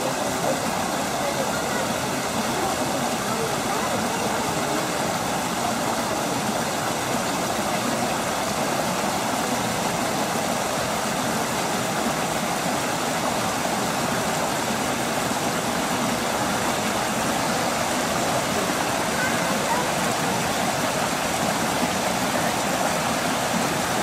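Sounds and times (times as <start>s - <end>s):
waterfall pouring into pond: 0.0s - 24.0s.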